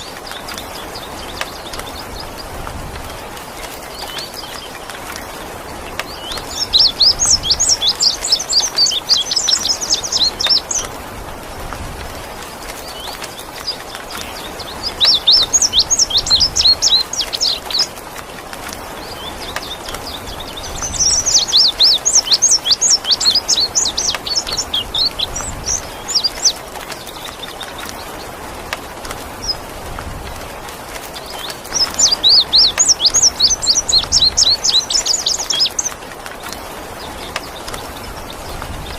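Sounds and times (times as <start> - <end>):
rain water hiss: 0.0 - 38.9.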